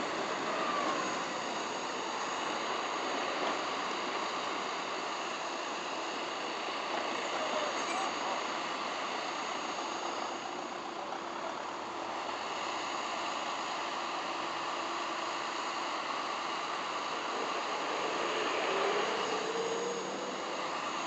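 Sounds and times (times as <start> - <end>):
vehicle engines droning: 0.0 - 21.0.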